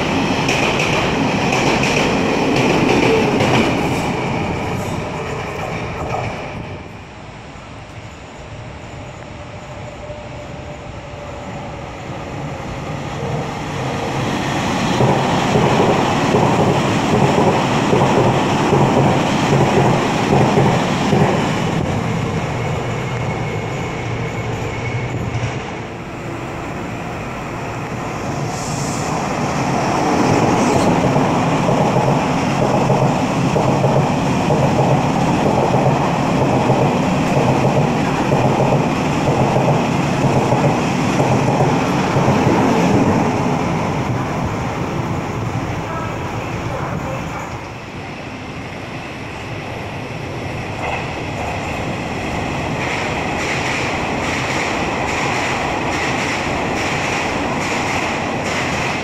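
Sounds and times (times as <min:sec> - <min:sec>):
train running past: 0:00.0 - 0:59.0.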